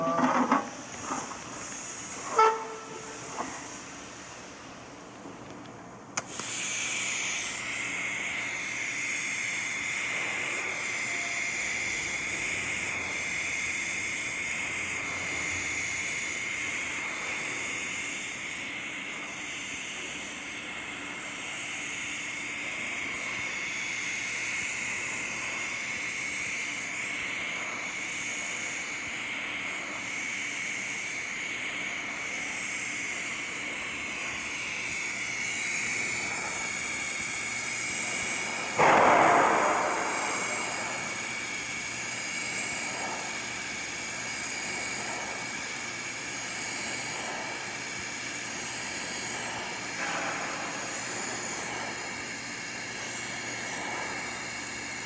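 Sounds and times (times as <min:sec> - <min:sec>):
welding arc hissing and whining: 0:00.0 - 0:05.4, 0:06.2 - 0:55.0.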